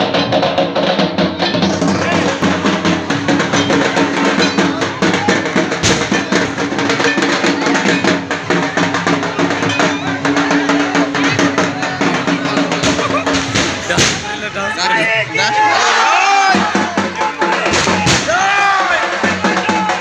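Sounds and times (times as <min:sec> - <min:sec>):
festive music with drumming: 0:00.0 - 0:20.0
crowd voices: 0:01.0 - 0:20.0.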